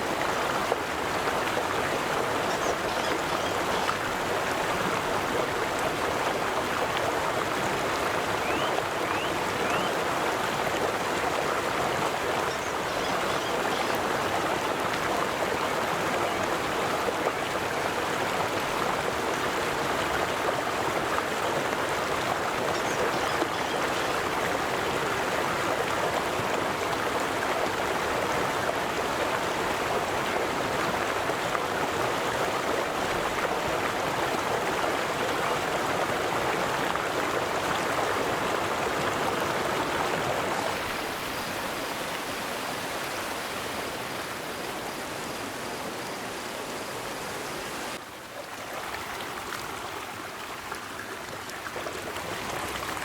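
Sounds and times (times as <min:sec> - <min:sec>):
river water flowing over rocks: 0:00.0 - 0:53.0.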